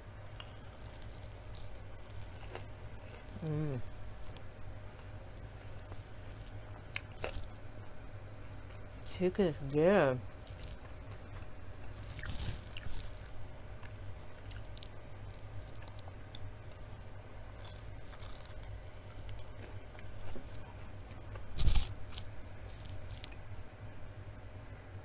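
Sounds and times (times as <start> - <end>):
low steady hum: 0.0 - 25.0
person chewing crispy food: 0.2 - 7.6, 8.6 - 23.4.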